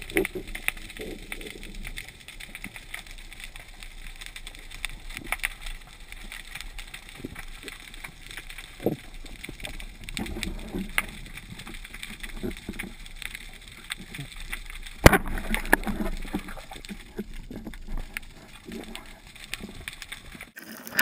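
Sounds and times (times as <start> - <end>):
faint clicks: 0.0 - 21.0.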